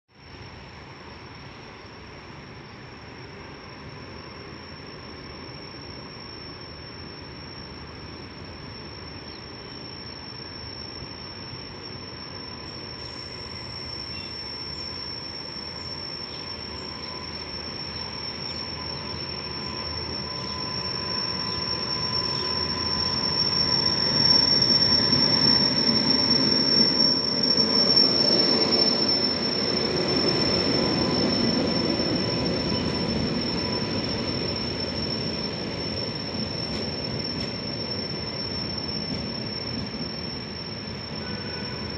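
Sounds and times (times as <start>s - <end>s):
train rail noise: 0.1s - 41.9s
continuous high-pitched squeak: 3.7s - 41.9s.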